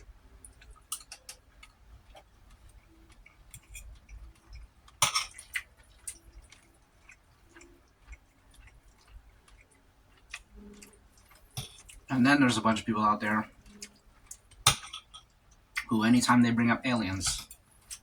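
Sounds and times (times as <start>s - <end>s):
quiet chewing: 0.0s - 16.2s, 17.0s - 18.0s.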